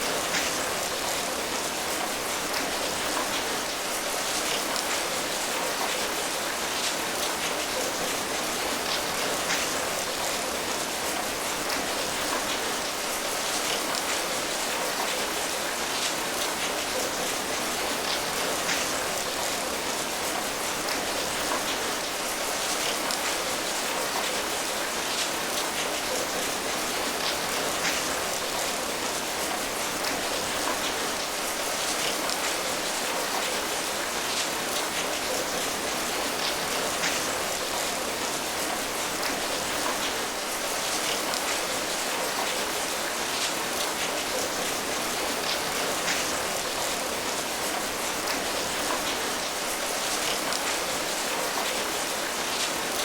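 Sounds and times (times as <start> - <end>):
raindrops pattering: 0.0 - 53.0.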